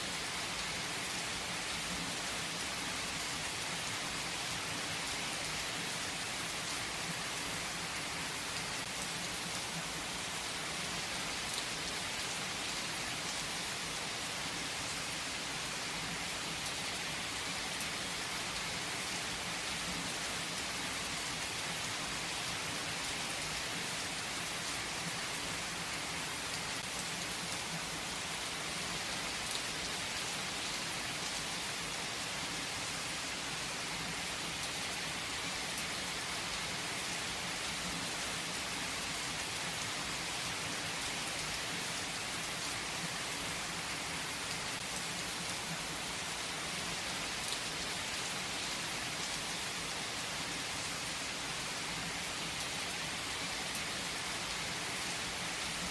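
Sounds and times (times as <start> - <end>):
heavy rain on leaves: 0.0 - 55.9.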